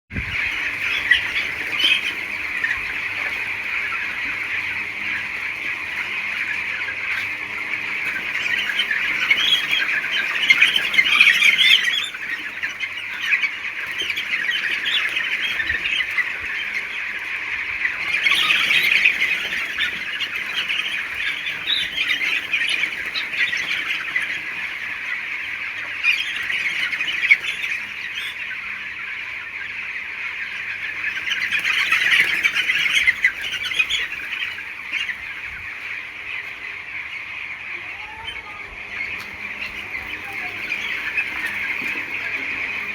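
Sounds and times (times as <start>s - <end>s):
chicks peeping: 0.1s - 42.9s.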